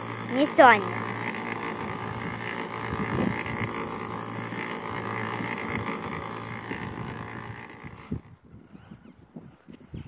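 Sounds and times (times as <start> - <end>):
concrete mixer humming: 0.0 - 10.0.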